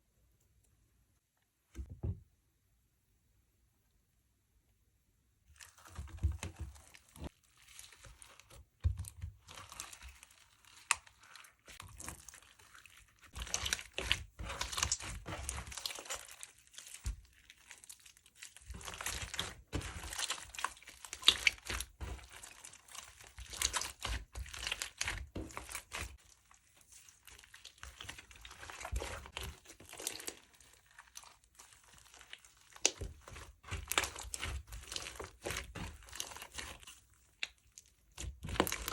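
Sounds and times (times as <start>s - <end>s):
slime squished by hand: 5.6s - 38.9s.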